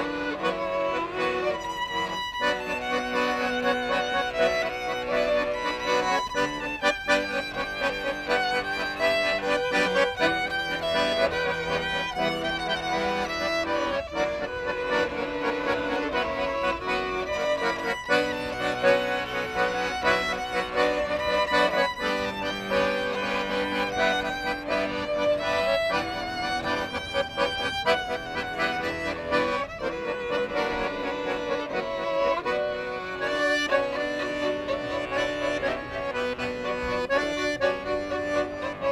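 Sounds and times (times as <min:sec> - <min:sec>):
accordion playing: 0:00.0 - 0:38.9
violin melody: 0:00.0 - 0:38.9.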